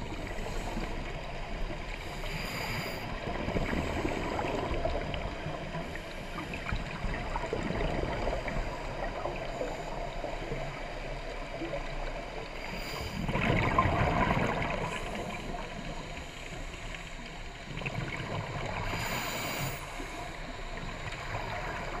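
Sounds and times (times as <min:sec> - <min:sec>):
underwater regulator bubbles gurgling: 0:00.0 - 0:22.0.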